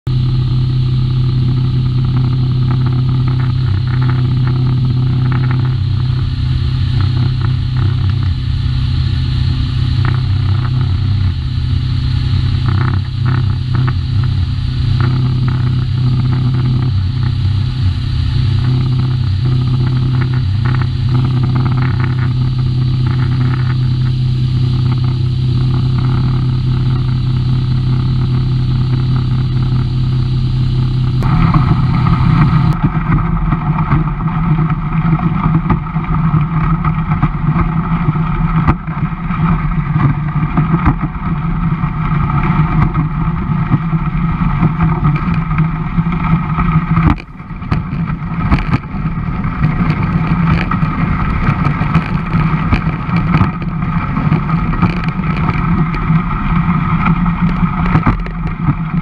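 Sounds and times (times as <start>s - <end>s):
outboard motor droning: 0.0s - 59.0s.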